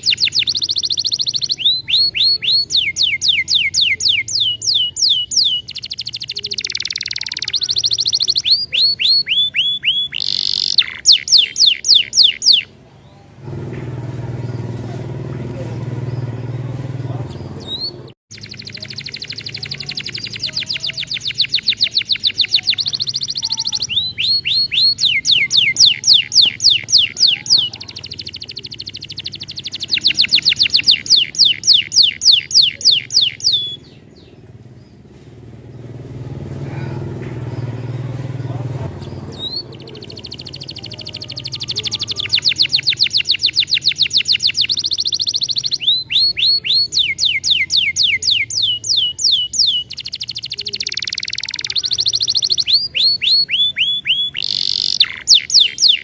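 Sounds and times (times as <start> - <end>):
canary singing trills: 0.0 - 13.4, 14.1 - 56.0.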